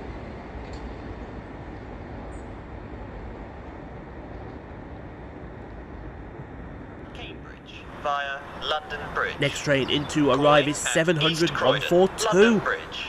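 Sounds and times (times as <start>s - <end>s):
electric train rail rumble: 0.0s - 13.0s.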